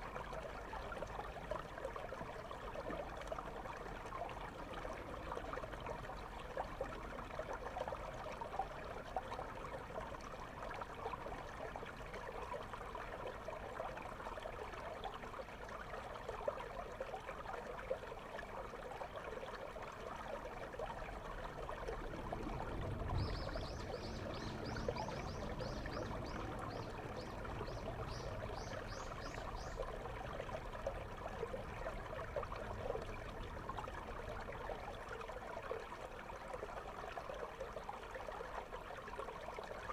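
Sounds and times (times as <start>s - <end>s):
underwater river flow: 0.0s - 39.9s.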